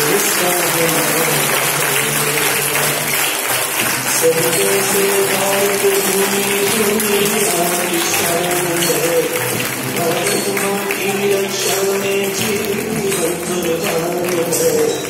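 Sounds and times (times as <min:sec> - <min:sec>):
applause: 0:00.0 - 0:15.0
patriotic song with held notes: 0:00.0 - 0:15.0.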